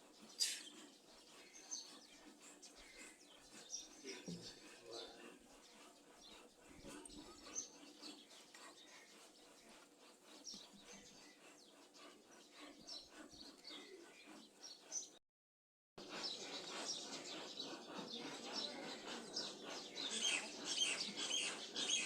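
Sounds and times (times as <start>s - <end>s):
birds chirping: 0.0s - 15.2s, 16.0s - 22.0s.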